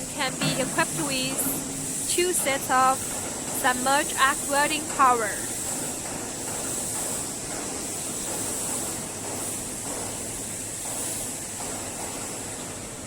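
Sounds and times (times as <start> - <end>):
factory background hiss: 0.0 - 13.0.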